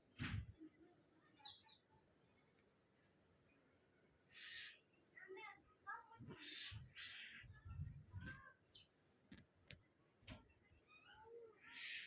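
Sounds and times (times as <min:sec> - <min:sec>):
faint bird calls and chirps: 0:00.1 - 0:12.0.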